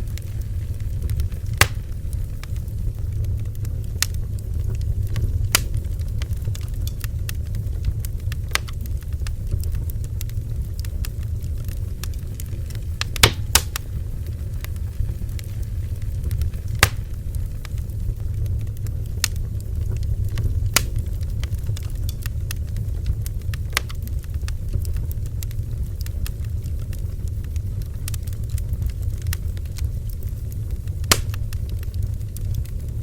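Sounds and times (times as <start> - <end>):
bonfire rumbling: 0.0 - 33.0
wood crackling pops: 0.0 - 33.0.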